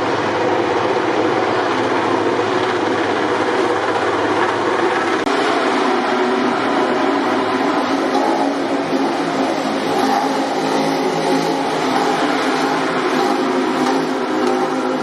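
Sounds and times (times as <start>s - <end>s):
steady loud mechanical noise: 0.0s - 15.0s.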